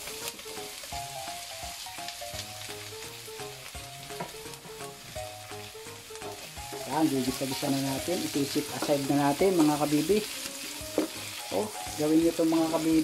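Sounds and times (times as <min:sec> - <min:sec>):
meat sizzling in a frying pan: 0:00.0 - 0:13.0
soft background music: 0:00.0 - 0:13.0.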